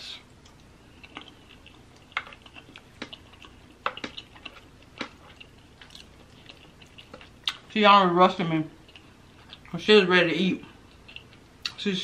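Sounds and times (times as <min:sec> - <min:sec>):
soft wet chewing: 0:00.2 - 0:07.7, 0:08.7 - 0:09.8, 0:10.6 - 0:11.8.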